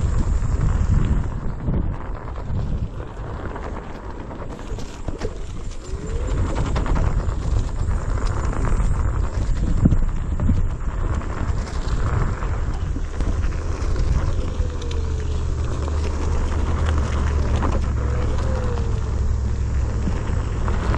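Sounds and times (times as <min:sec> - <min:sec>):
electric board rumbling over trail: 0:00.0 - 0:20.9
faint motor whine: 0:00.0 - 0:20.9.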